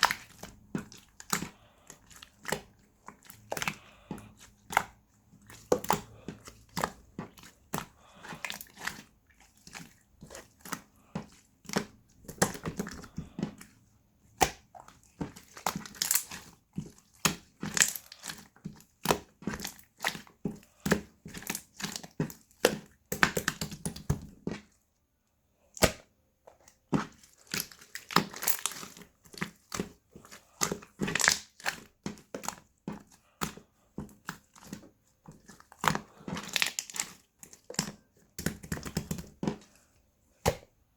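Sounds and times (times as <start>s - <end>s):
slime squishing wet clicks: 0.0s - 24.8s, 25.6s - 40.8s.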